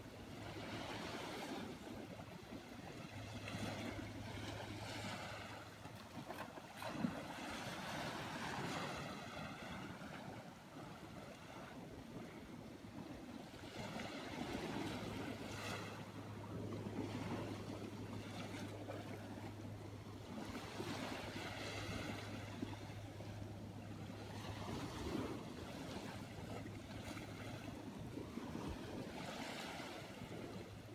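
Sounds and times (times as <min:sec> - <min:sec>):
small ocean waves breaking: 0:00.0 - 0:30.9.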